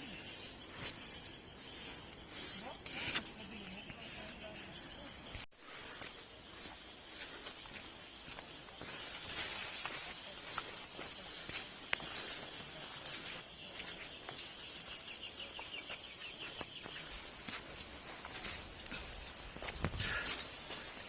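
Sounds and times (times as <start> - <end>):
high-pitched insect drone: 0.0 - 20.3.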